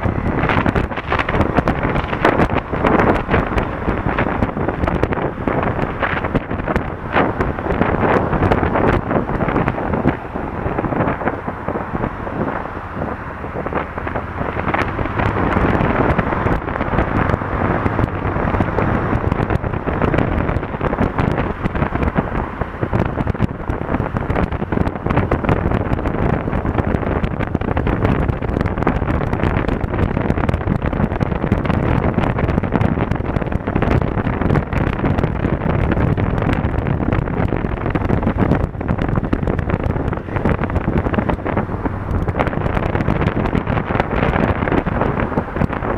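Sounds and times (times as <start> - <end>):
motorcycle engine running: 0.0 - 45.9
wind buffeting microphone: 0.0 - 45.9.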